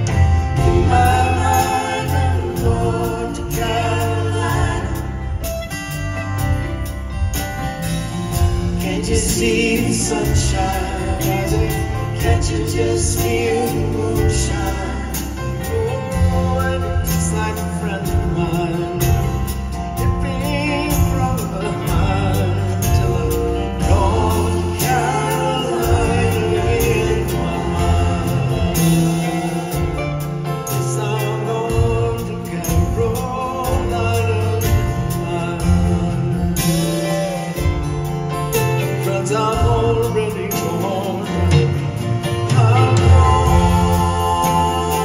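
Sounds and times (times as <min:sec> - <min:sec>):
person singing: 0:00.0 - 0:06.5, 0:08.6 - 0:45.0
live band playing: 0:00.0 - 0:45.0
sung vocal harmonies: 0:00.0 - 0:45.0.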